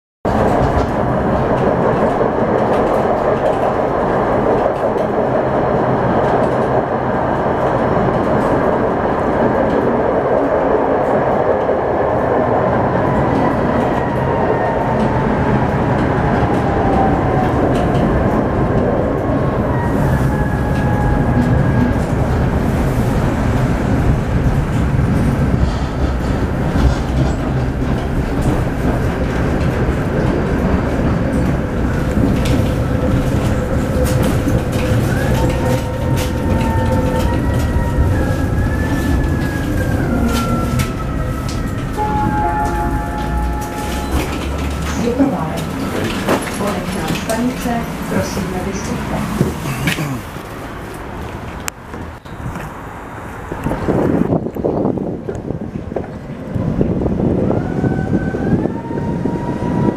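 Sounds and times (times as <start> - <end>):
tram wheels rumbling on rails: 0.3 - 59.9.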